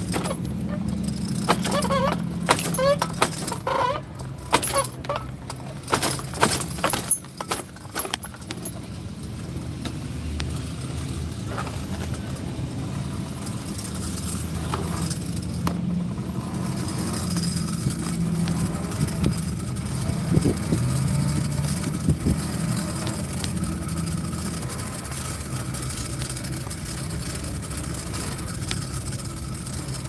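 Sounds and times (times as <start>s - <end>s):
car engine idling: 0.0s - 30.0s
sharp clicks and jangling rattles: 0.0s - 30.0s.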